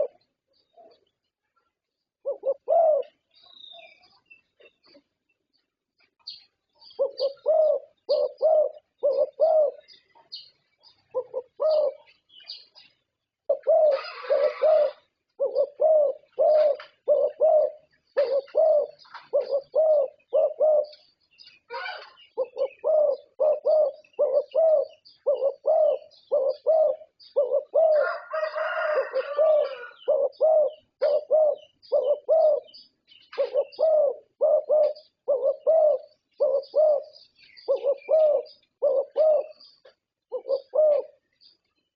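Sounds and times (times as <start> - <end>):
dove cooing: 0.0 - 1.1, 2.2 - 5.0, 6.2 - 12.7, 13.4 - 41.6.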